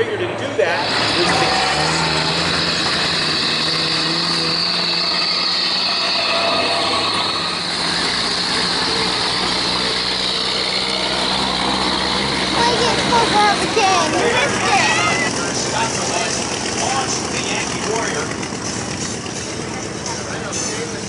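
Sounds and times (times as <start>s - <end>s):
aircraft engine running: 0.2s - 21.0s.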